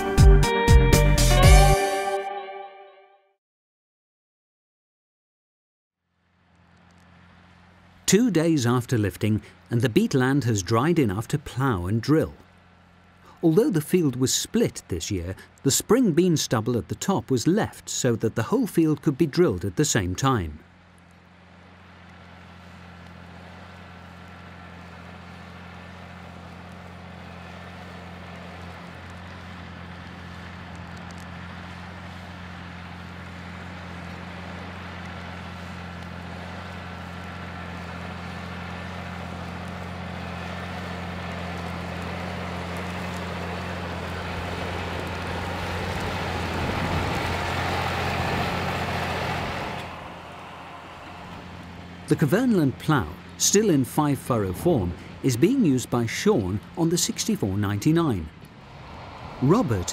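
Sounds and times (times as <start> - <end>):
tractor diesel engine running: 6.1 - 59.9.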